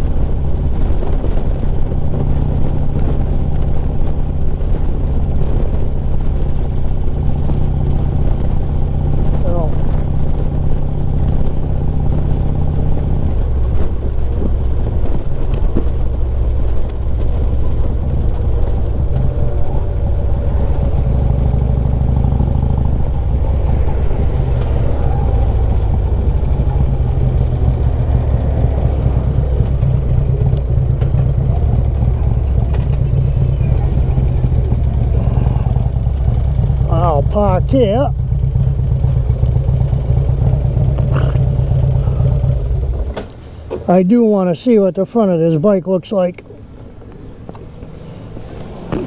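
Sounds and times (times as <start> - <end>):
motorcycle engine while riding: 0.0 - 44.0, 46.4 - 49.0
road noise: 0.0 - 49.0.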